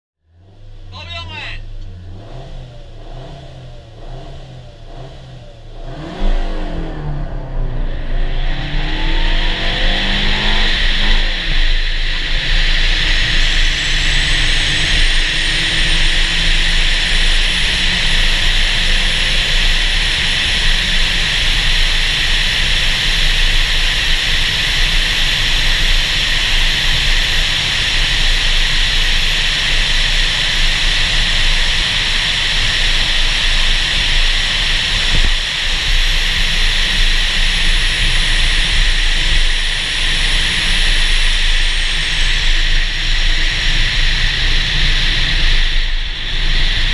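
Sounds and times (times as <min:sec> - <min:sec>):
car engine running: 0:00.2 - 0:46.9
wind rushing over microphone: 0:06.4 - 0:46.9.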